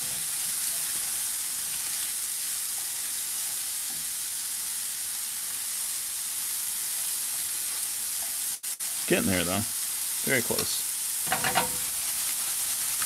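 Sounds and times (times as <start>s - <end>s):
mushrooms sizzling in a pan: 0.0s - 13.0s.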